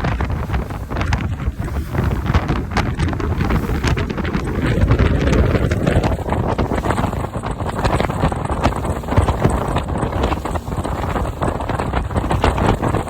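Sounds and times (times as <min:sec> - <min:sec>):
speedboat engine rumble: 0:00.0 - 0:13.0
wind buffeting microphone: 0:00.0 - 0:13.0.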